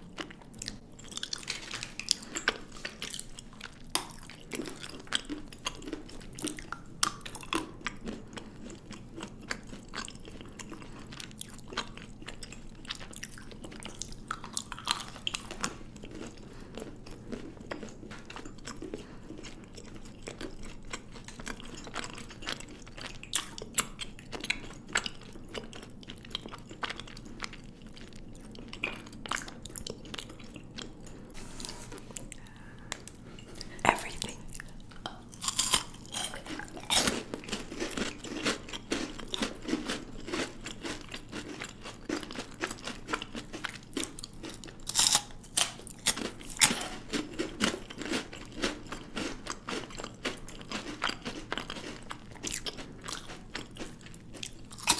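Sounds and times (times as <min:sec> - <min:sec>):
chewing and biting chocolate: 0:00.0 - 0:31.3, 0:31.9 - 0:54.9.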